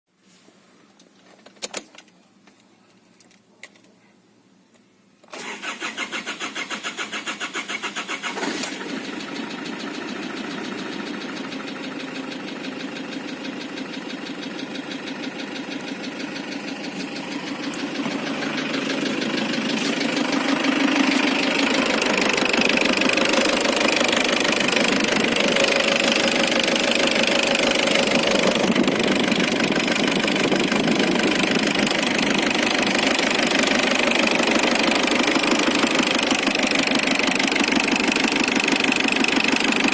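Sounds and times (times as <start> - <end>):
diesel engine starting and running: 5.2 - 39.9.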